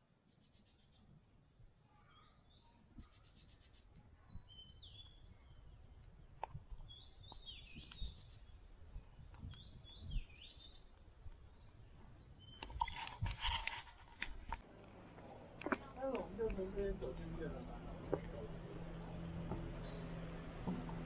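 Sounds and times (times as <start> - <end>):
songbirds singing: 0.2 - 13.8, 16.2 - 21.0.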